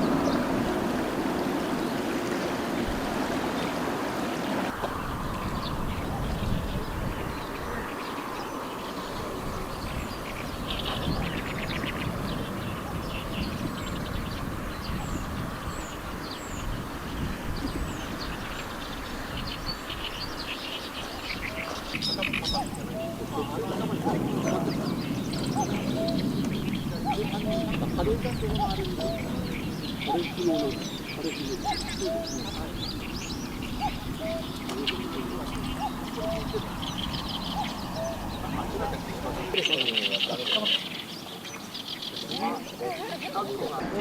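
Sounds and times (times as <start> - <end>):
wind rumbling over microphone: 0.0 - 40.0
small birds chirping: 0.0 - 44.0.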